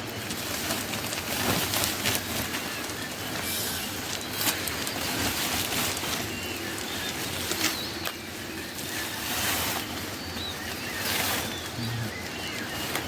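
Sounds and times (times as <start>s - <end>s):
bird chirps: 2.2s - 13.0s.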